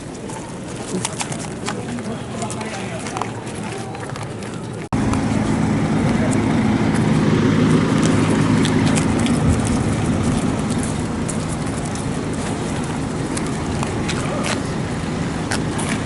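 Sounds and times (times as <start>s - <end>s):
engine humming: 0.0s - 16.0s
traffic noise: 0.0s - 16.0s.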